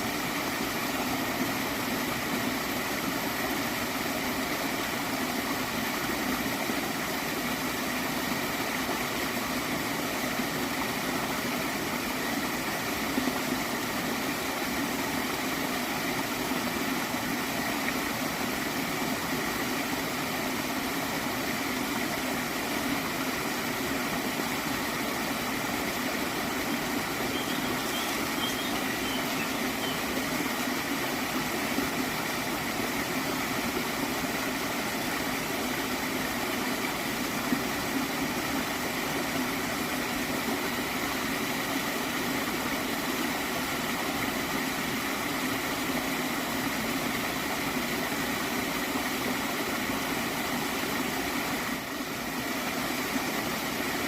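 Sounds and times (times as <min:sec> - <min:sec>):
small stream gurgling: 0:00.0 - 0:54.0.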